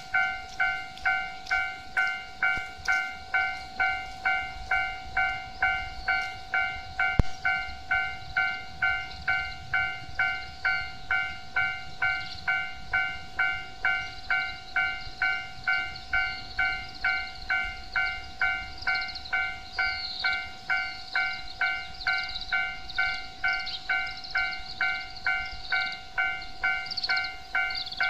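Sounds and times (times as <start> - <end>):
level crossing bell ringing: 0.0 - 28.0.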